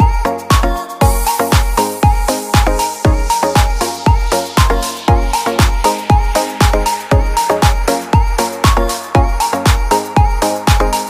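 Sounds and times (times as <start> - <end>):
steady kick drum: 0.0 - 11.0
upbeat background music: 0.0 - 11.0.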